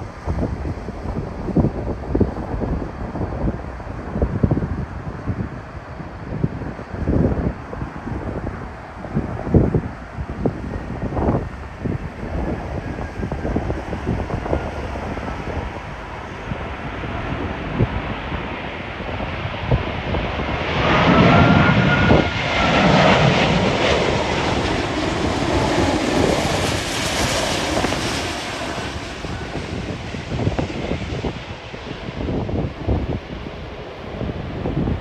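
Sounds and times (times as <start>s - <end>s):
jet airliner engines whining: 0.0s - 35.0s
wind buffeting microphone: 0.0s - 35.0s.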